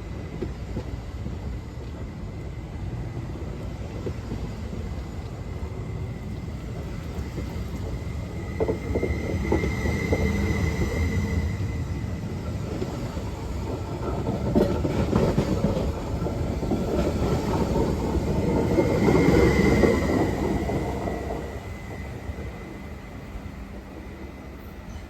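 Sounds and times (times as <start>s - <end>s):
train wheel and rail rumble: 0.0s - 25.0s.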